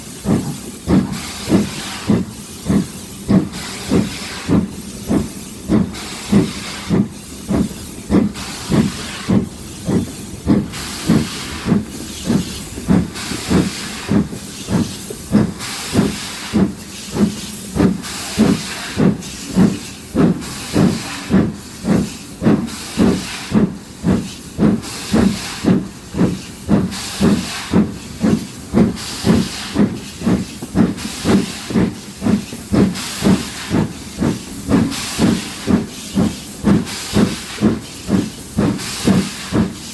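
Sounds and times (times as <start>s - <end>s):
steam hissing: 0.0s - 39.9s
steam locomotive exhaust chuffing: 0.0s - 39.9s.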